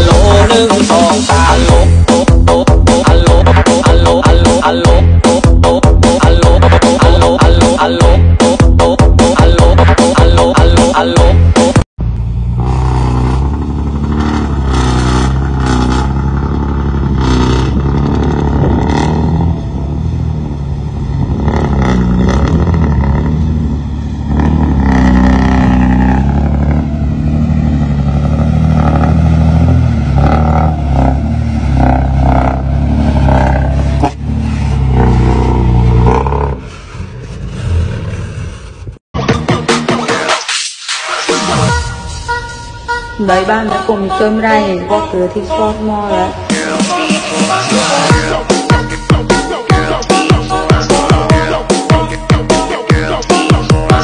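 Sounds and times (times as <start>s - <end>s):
dump truck diesel engine revving: 0.0s - 39.0s, 45.4s - 54.0s.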